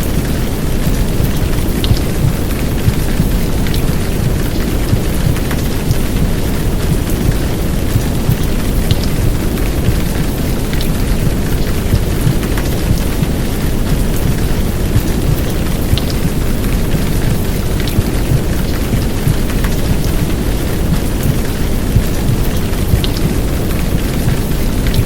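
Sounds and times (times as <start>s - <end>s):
heavy rain hissing: 0.0s - 25.0s
rain drop ticks: 0.0s - 25.0s.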